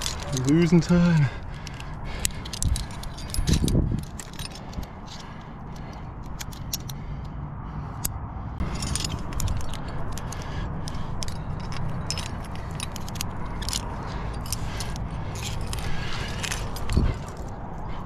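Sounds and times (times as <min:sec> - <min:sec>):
metal climbing gear clinking: 0:00.0 - 0:18.0
steady low rumble: 0:00.0 - 0:18.0.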